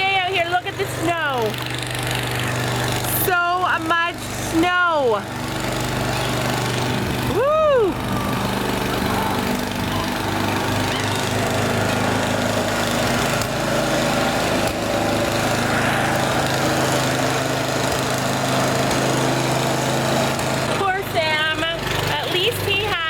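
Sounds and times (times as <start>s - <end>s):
snowblower engine running: 0.0s - 23.0s.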